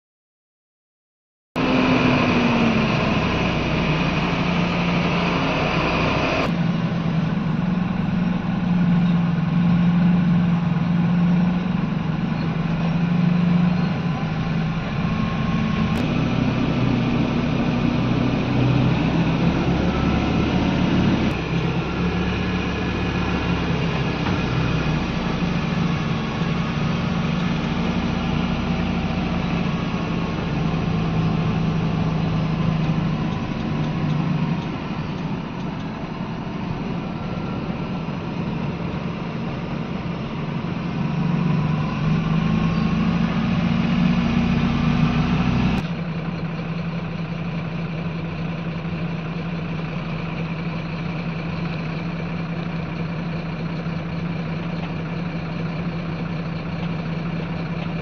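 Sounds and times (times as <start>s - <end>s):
diesel truck engine running: 1.6s - 58.0s
rumbling road noise: 1.6s - 58.0s.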